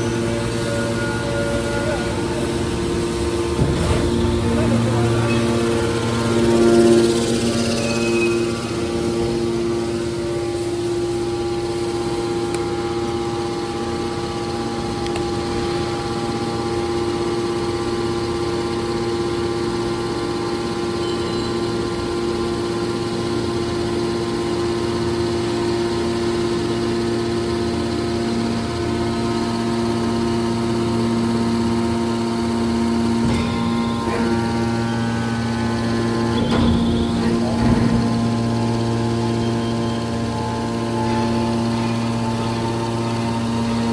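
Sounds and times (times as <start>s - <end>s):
baler mechanical hum: 0.0s - 43.9s.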